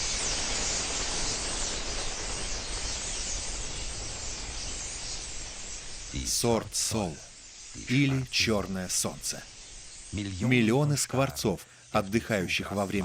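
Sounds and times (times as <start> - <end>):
birds chattering: 0.3 - 13.0.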